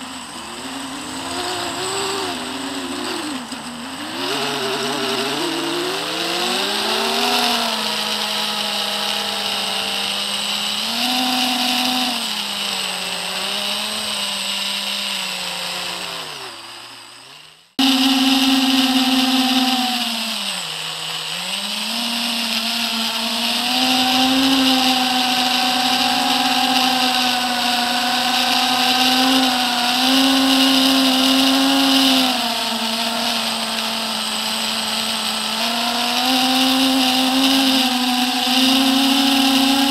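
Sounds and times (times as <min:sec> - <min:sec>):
drone motors and propellers whining: 0:00.0 - 0:39.9.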